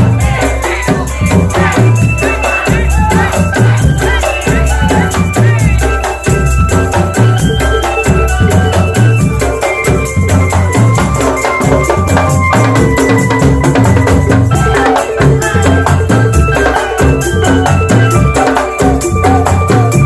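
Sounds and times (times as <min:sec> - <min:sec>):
drum band playing: 0:00.0 - 0:20.0
melody of held notes: 0:00.0 - 0:20.0.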